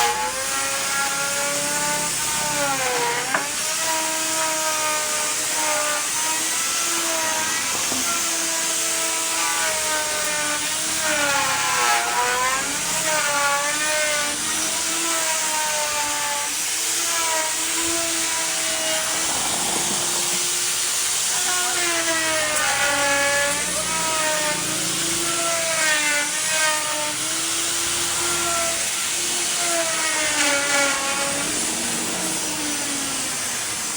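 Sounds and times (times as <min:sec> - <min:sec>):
power tool cutting wood: 0:00.0 - 0:33.9.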